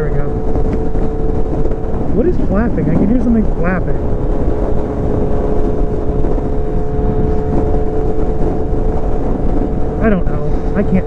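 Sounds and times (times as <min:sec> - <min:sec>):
motorcycle engine cruising: 0:00.0 - 0:11.0
steady hum: 0:00.0 - 0:11.0
wind rush: 0:00.0 - 0:11.0.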